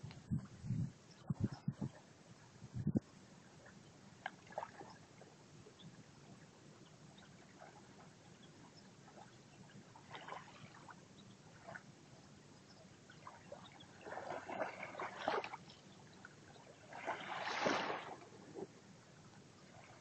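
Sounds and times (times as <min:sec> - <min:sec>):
small waves lapping on shore: 0:03.6 - 0:20.0.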